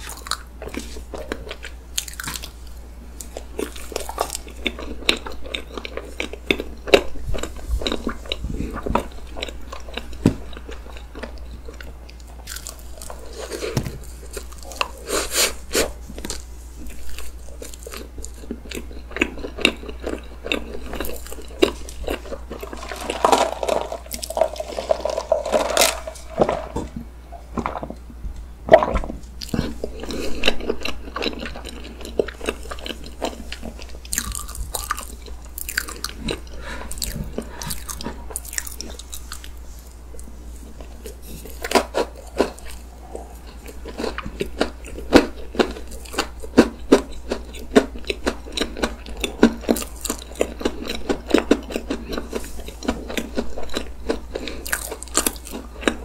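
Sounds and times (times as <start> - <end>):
chewing crunchy cake: 0.0 - 56.0.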